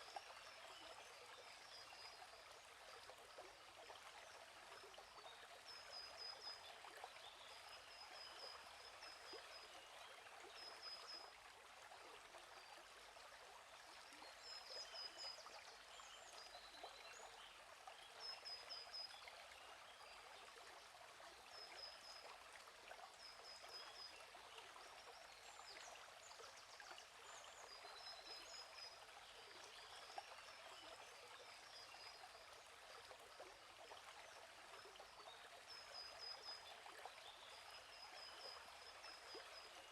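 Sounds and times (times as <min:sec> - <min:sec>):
flowing stream babbling: 0:00.0 - 0:39.9.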